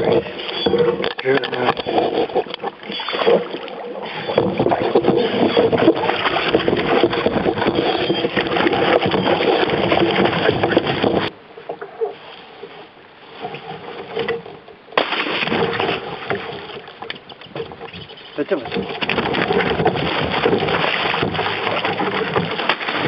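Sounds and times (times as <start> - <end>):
paddling: 0.0 - 23.0
water splashing against canoe: 0.0 - 23.0.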